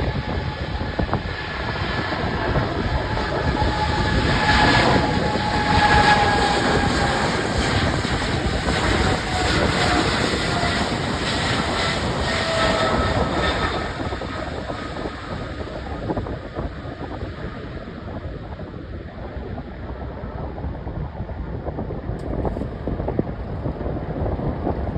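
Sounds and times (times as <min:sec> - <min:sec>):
jet engines at takeoff: 0:00.0 - 0:24.9.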